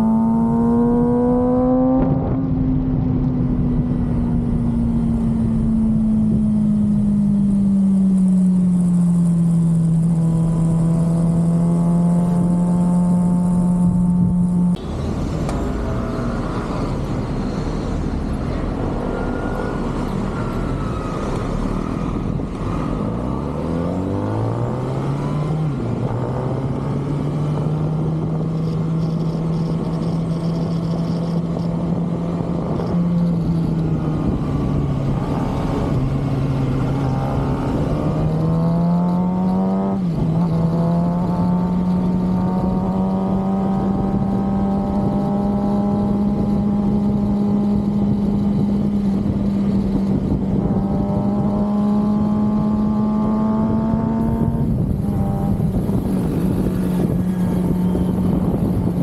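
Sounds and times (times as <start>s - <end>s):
motorcycle engine accelerating: 0.0s - 59.0s
wind noise: 0.0s - 59.0s.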